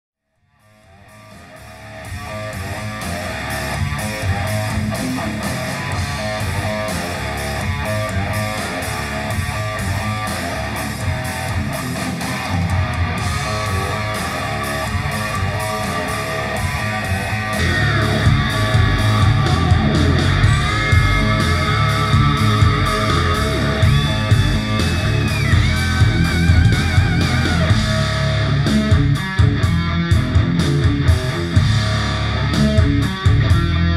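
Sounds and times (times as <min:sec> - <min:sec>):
guitar rock music through speakers: 0:00.4 - 0:33.9.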